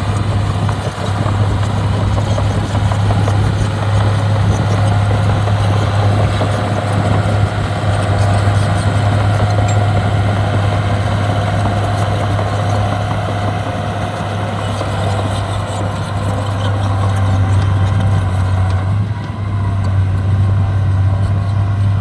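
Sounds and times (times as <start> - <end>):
diesel earthmoving equipment running: 0.0 - 22.0.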